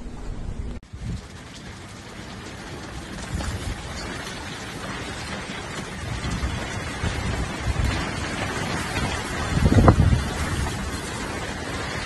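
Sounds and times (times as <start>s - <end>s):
heavy rain falling: 0.8s - 12.0s
wind buffeting microphone: 0.8s - 12.0s.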